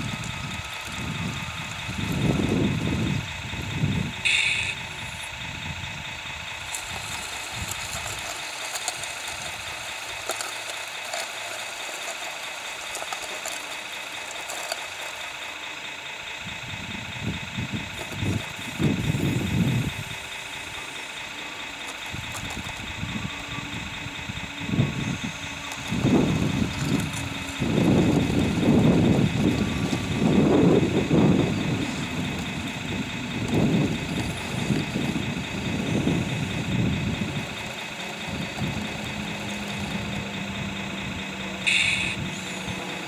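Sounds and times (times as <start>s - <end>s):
low rumble: 0.0s - 10.5s, 15.2s - 43.0s
small electric motors whining: 0.0s - 43.0s.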